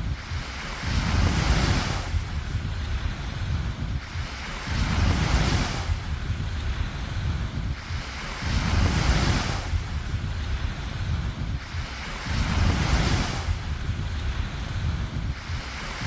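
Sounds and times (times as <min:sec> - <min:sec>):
sea waves breaking: 0:00.0 - 0:16.0
wind rumble on microphone: 0:00.0 - 0:16.0.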